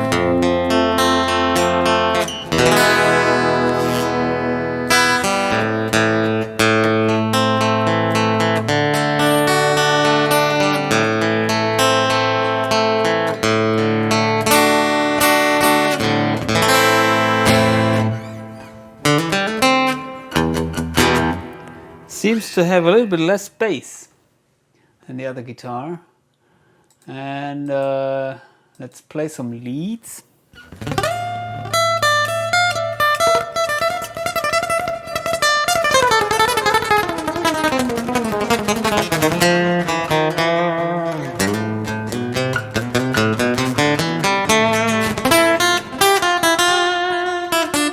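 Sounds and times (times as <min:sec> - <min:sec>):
fingerstyle acoustic guitar: 0:00.0 - 0:22.1, 0:30.6 - 0:47.9.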